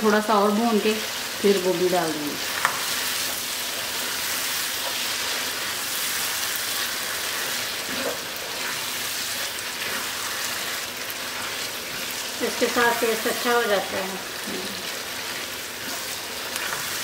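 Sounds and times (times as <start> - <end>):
meat frying in hot oil: 0.0 - 17.0
spatula stirring in pan: 2.4 - 13.6, 14.2 - 17.0.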